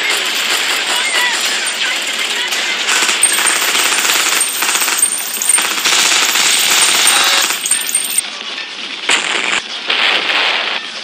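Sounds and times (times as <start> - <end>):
rapid gunfire: 0.0 - 8.2, 9.1 - 10.7.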